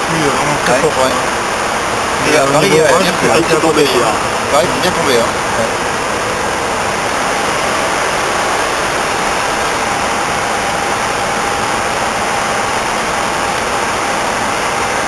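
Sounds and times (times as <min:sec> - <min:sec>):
aircraft cockpit rushing noise: 0:00.0 - 0:15.0.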